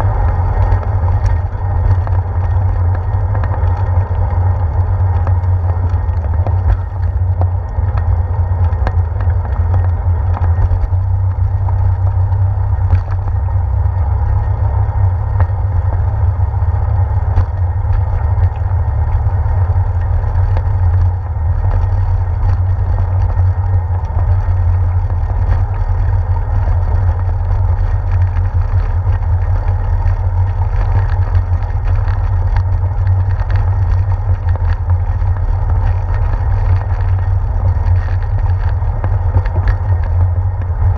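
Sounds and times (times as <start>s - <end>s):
bicycle riding vibration: 0.0s - 40.9s
wind rumble: 0.0s - 40.9s.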